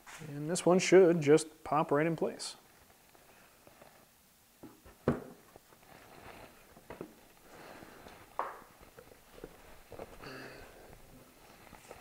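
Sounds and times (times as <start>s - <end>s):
soft rubbing and handling noise: 2.2s - 12.0s.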